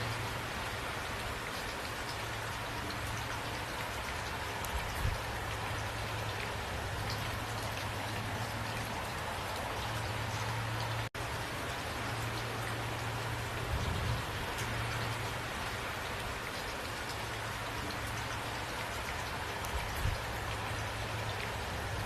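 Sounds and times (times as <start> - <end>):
rain falling: 0.0 - 22.0
raindrops ticking on a surface: 0.0 - 22.0.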